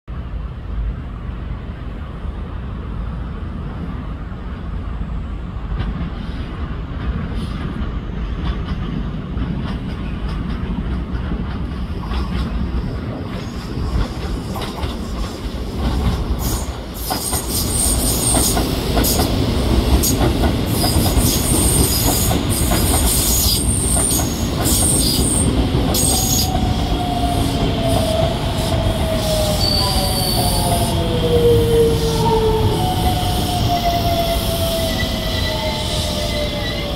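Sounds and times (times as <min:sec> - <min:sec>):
train rumbling: 0:00.1 - 0:36.9.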